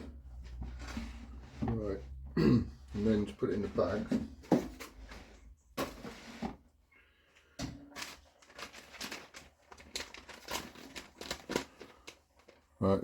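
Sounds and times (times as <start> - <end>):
rustling and scraping: 0.0 - 12.8.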